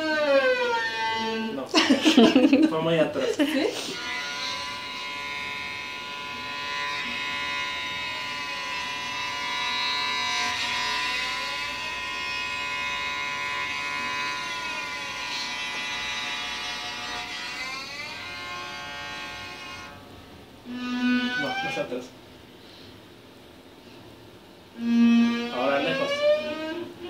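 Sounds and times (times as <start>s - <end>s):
cello bowing a long note: 0.0s - 1.6s, 4.0s - 22.0s, 24.7s - 27.0s.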